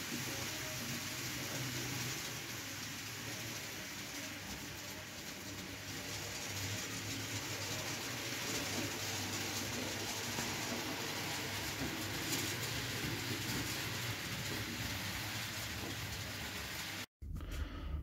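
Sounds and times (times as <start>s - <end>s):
model train wheels on rails: 0.0s - 17.1s.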